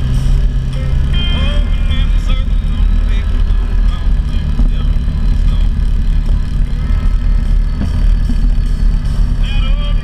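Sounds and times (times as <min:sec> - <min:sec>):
off-road vehicle driving over gravel: 0:00.0 - 0:10.0.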